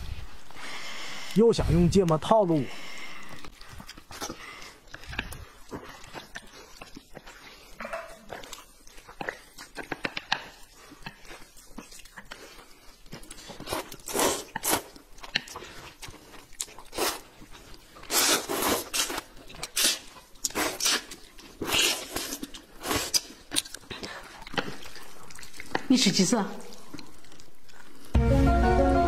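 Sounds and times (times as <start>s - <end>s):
chewing: 2.3s - 28.2s
people slurping noodles: 2.6s - 28.2s.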